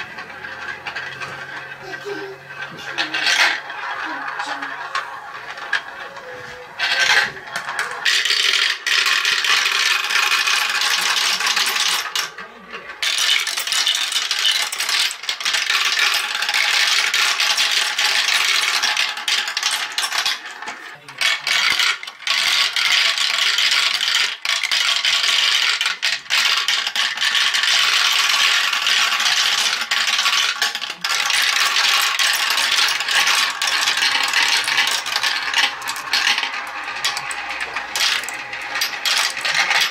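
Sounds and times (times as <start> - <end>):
marbles rattling on plastic track: 0.0 - 39.9.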